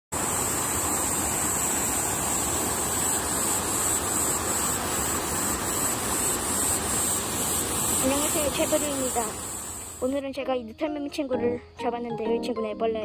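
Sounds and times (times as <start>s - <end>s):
cicadas singing in chorus: 0.2s - 13.0s.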